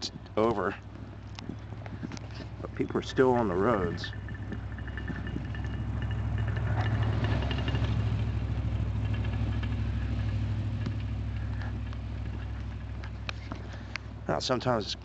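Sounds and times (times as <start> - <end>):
vehicle engine driving past: 0.0 - 15.0.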